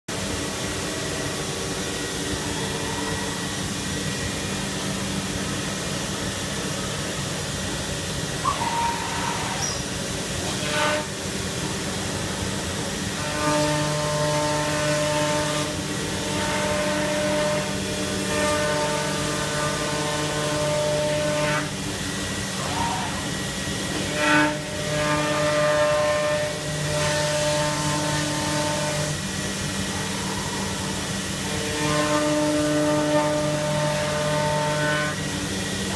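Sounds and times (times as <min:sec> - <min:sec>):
cnc router cutting plywood: 0:00.1 - 0:35.9.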